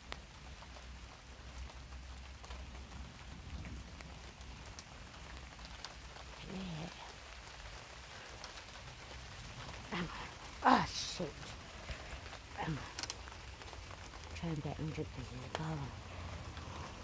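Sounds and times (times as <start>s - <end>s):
rain falling: 0.0s - 17.0s
raindrop clicks: 0.0s - 17.0s.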